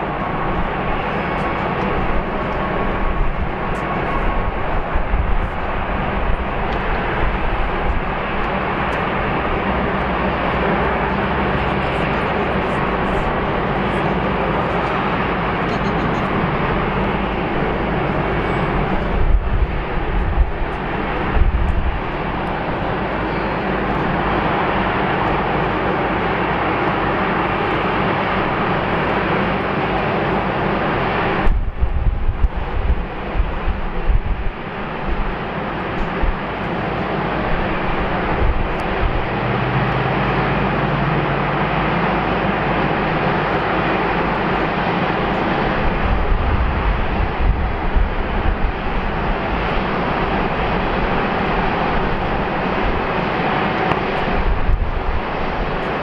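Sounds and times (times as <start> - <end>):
low rumbles: 0.0 - 40.0, 40.6 - 56.0
jet engines rushing: 0.0 - 56.0.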